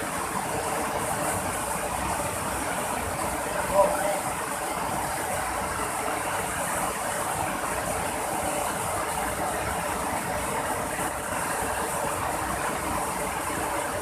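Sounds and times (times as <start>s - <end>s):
fast-flowing river water: 0.0s - 14.0s.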